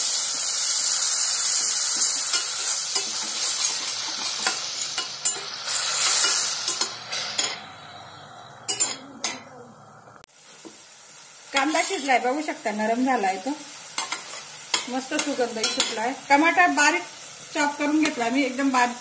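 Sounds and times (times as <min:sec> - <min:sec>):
onions sizzling in oil: 0:00.0 - 0:09.0, 0:10.3 - 0:19.0.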